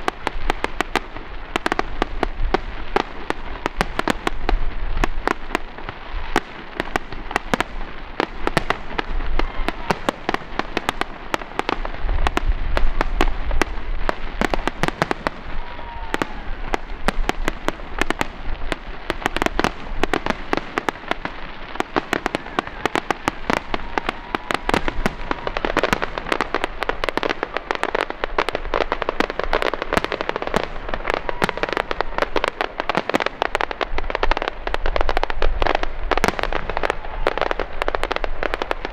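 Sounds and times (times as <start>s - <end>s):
deep firework booms: 0.0s - 38.9s
firework bursts and crackling: 0.0s - 38.9s.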